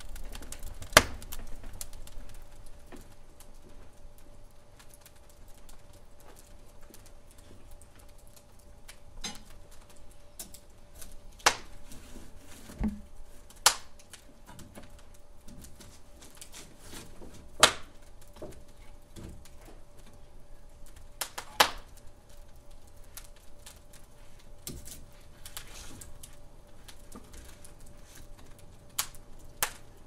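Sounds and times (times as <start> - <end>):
burning wood popping: 0.0 - 30.0
wood fire crackling: 0.0 - 30.0.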